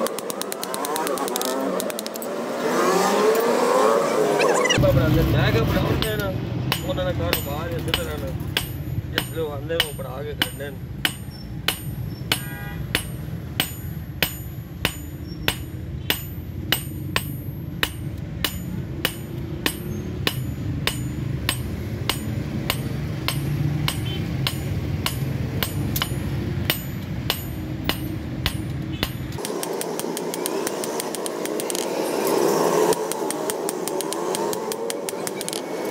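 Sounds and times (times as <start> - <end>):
hammer striking hot steel on anvil: 5.7 - 35.9.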